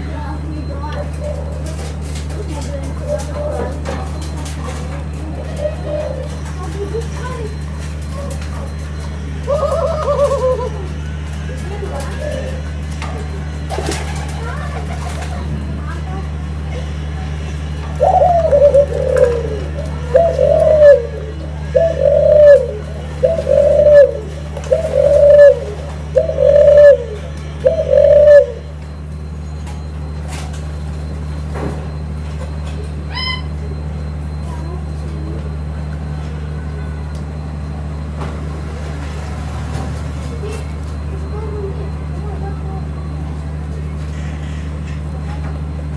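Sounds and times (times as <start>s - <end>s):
dove cooing: 0.0s - 45.8s.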